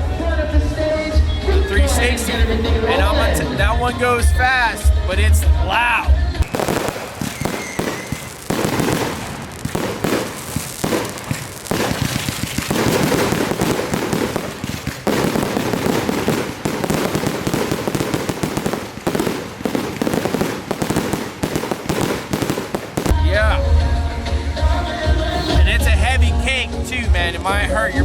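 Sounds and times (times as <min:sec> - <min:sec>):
fireworks bangs and crackling: 0:00.6 - 0:28.0.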